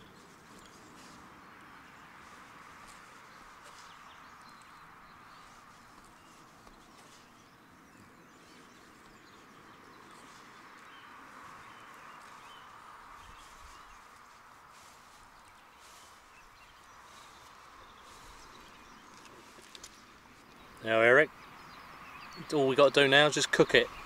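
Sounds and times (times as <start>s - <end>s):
faint bird calls: 0.0s - 22.5s.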